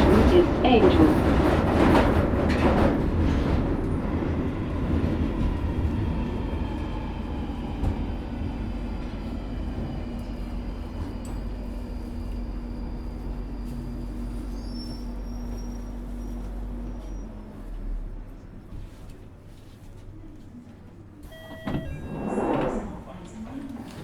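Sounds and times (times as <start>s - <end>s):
underground train rumble: 0.0s - 24.0s.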